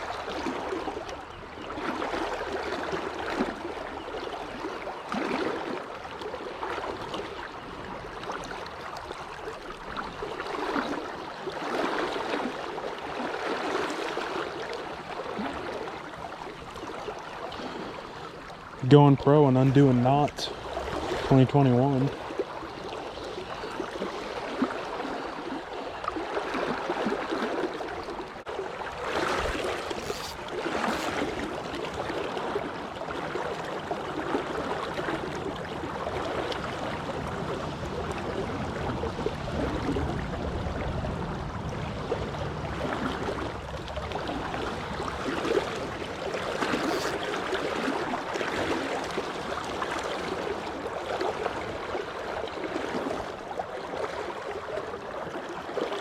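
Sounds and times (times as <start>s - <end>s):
stream water rushing and gurgling: 0.0s - 56.0s.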